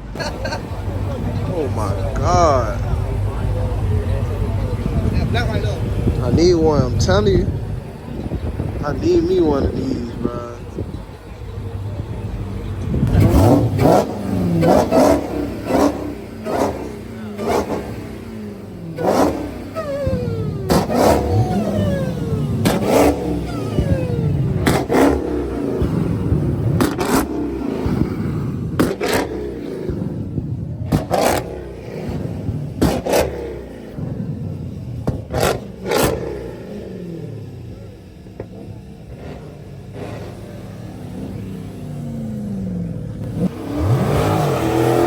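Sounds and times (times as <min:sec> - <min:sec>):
car engine revving: 0:00.0 - 0:45.0
engine idle rumble: 0:00.0 - 0:45.0.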